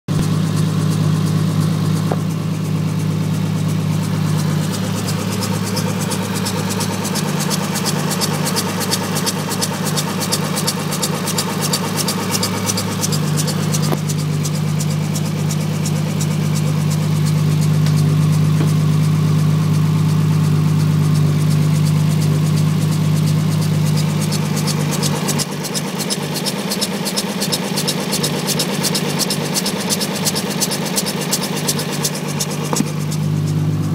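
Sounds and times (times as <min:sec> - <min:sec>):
car engine idling: 0:00.1 - 0:33.9
fast even ticking: 0:03.0 - 0:18.8, 0:21.0 - 0:33.9.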